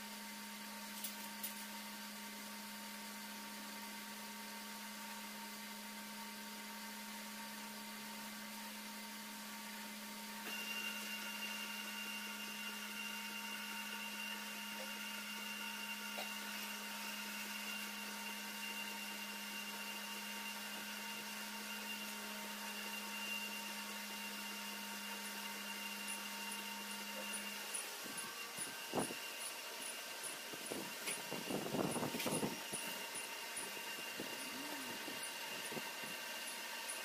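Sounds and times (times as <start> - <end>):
high steady whine: 0.0 - 37.0
milling machine humming: 1.0 - 37.0.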